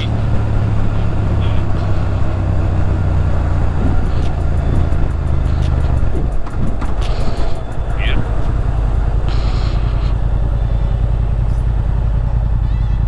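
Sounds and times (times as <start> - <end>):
motorcycle engine droning: 0.0 - 13.0
wind and road noise: 0.0 - 13.0.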